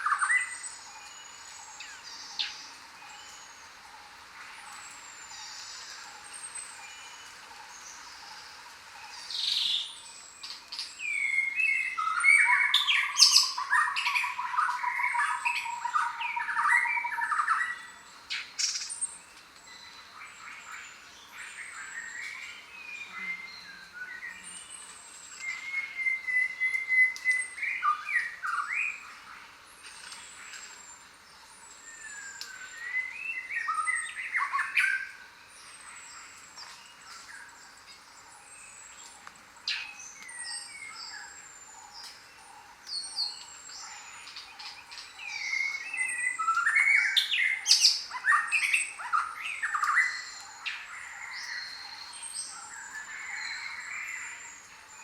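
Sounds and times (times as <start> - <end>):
birds calling and singing: 0.0 - 55.0.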